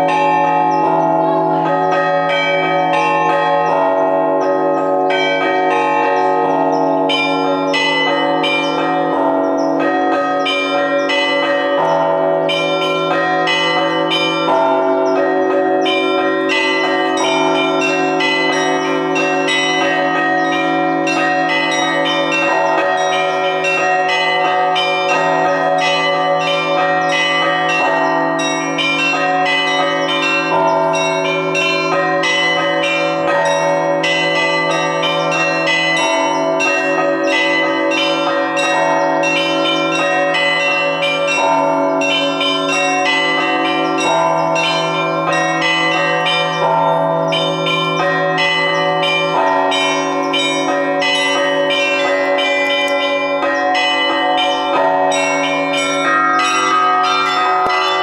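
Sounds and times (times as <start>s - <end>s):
large bells humming: 0.0s - 58.0s
small bells pealing: 0.0s - 58.0s.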